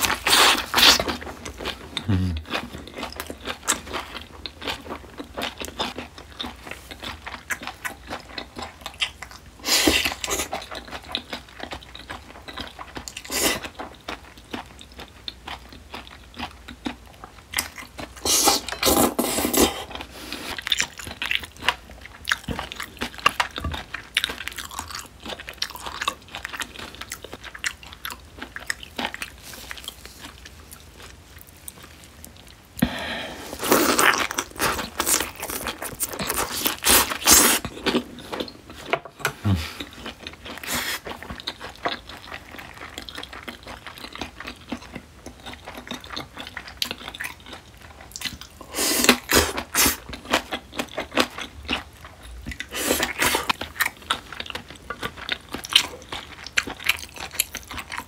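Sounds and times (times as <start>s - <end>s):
close chewing and biting: 0.0s - 58.0s.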